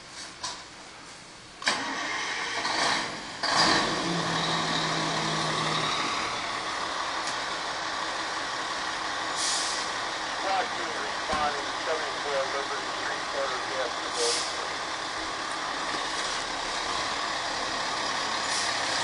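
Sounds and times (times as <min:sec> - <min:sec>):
fire engine starting up: 0:01.6 - 0:19.0.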